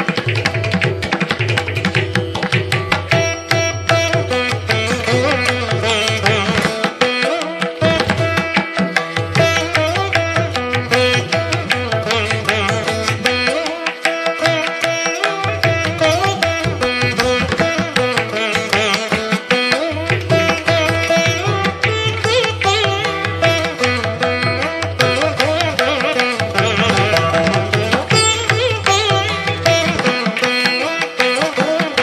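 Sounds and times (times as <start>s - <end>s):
plucked strings: 0.0s - 32.0s.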